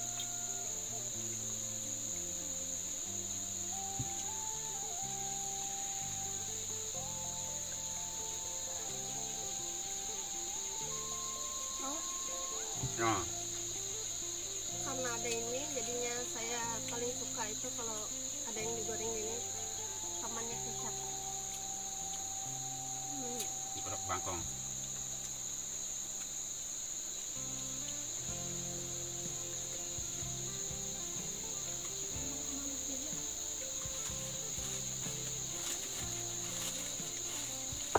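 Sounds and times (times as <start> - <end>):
insects chirring: 0.0 - 37.9
soft melodic background music: 0.0 - 37.9.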